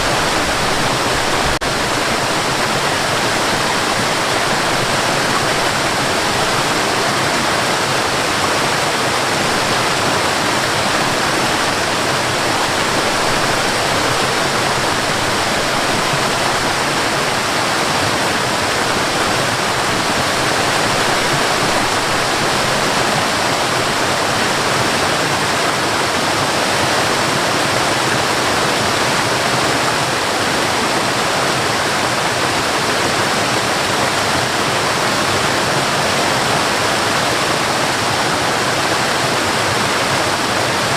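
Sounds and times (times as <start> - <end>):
waterfall pouring into river: 0.0 - 40.9.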